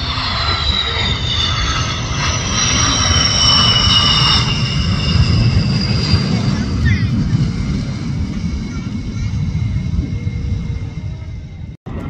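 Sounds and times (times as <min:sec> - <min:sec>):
jet engines whining: 0:00.0 - 0:12.0
low rumble: 0:00.0 - 0:12.0.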